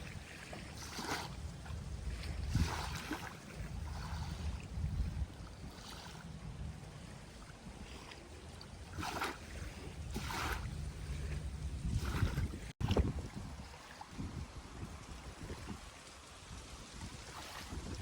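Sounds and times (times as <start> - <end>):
small waves washing on beach: 0.0 - 18.0
wind rumbling on microphone: 0.0 - 18.0.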